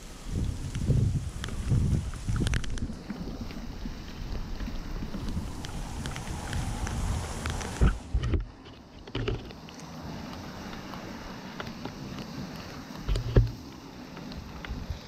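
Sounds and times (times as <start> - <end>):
small clicks and rustles: 0.2 - 15.0.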